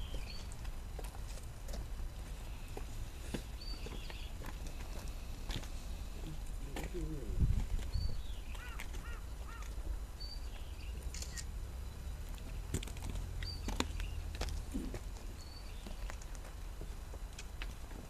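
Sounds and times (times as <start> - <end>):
birds chirping: 0.0 - 1.0, 2.1 - 16.7
steady low rumble: 0.0 - 18.0.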